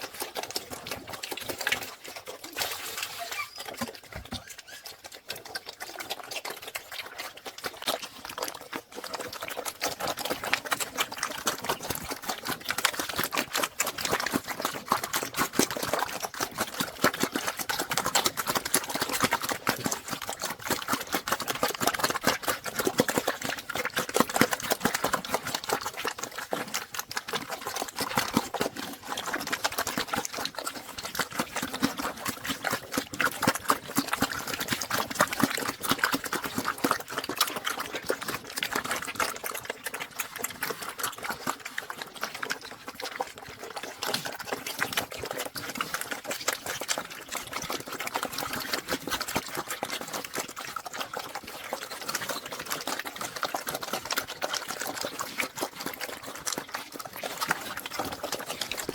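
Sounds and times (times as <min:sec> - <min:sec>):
pigs chomping and slurping: 0:00.0 - 0:58.9.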